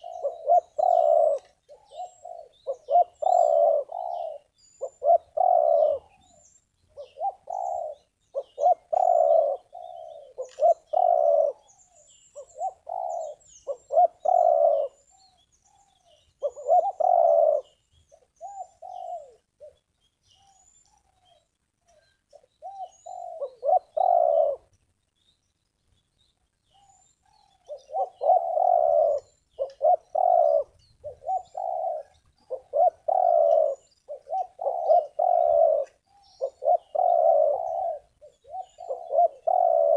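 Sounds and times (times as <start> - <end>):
dove cooing: 0.0 - 24.7, 26.7 - 39.9
small birds chirping faintly: 0.0 - 39.9.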